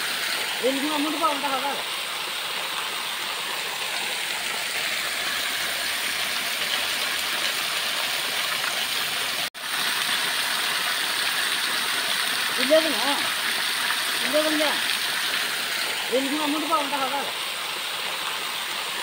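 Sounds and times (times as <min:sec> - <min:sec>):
water gushing and splashing: 0:00.0 - 0:19.0.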